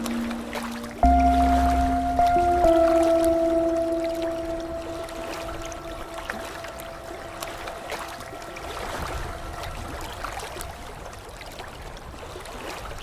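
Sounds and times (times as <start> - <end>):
held musical notes: 0.0 - 11.3
water trickling and splashing: 0.0 - 13.0.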